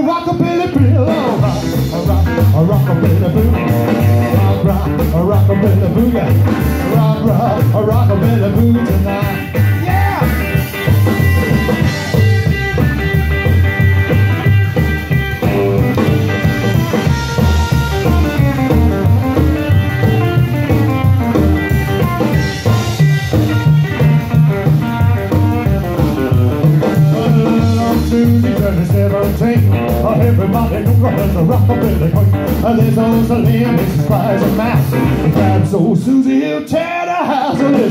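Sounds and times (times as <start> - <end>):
drum kit fast beat: 0.2 - 35.8
electric guitar lead: 0.3 - 35.8
upright double bass: 0.4 - 36.2.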